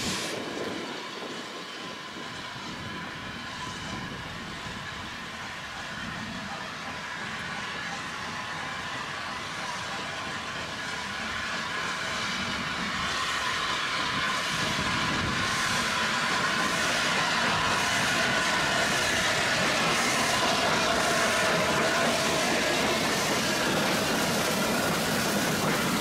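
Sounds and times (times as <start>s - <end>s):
steam train running: 0.0s - 26.0s.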